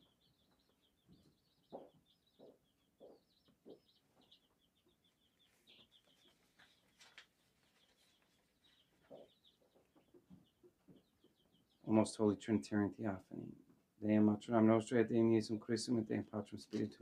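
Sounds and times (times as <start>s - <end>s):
small birds chattering: 0.0s - 17.0s.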